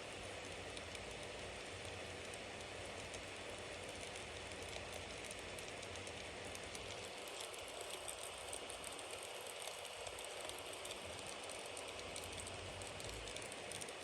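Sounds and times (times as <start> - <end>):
bonfire crackling: 0.4 - 14.0.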